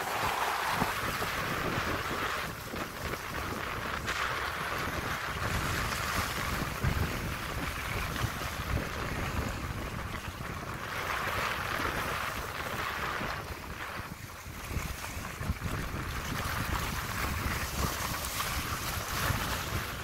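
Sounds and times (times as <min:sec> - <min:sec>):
lake water washing against shore: 0:00.0 - 0:20.0
wind buffeting microphone: 0:00.0 - 0:20.0.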